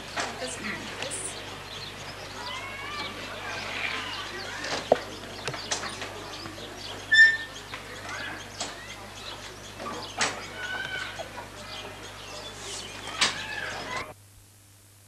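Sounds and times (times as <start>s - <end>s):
birds chirping: 0.0s - 14.1s.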